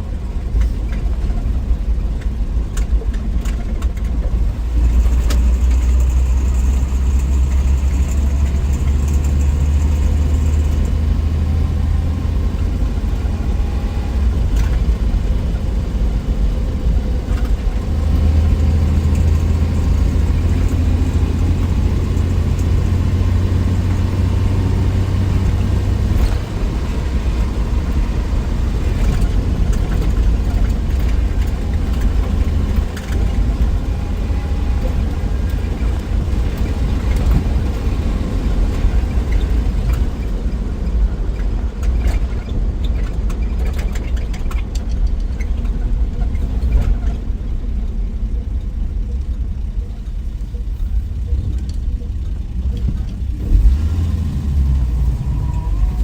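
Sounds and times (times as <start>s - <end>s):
car engine droning: 0.0s - 56.0s
road noise: 0.0s - 56.0s.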